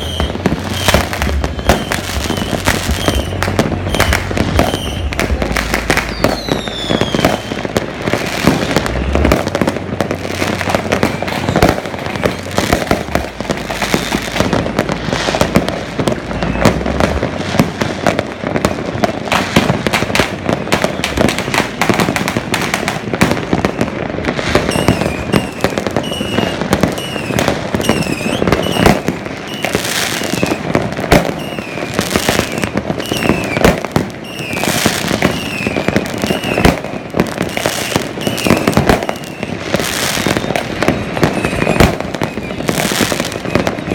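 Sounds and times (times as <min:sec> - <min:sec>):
firework whistles falling in pitch: 0:00.0 - 0:09.3, 0:10.6 - 0:17.4, 0:20.5 - 0:22.2, 0:23.4 - 0:43.9
fireworks crackling and banging: 0:00.0 - 0:43.9.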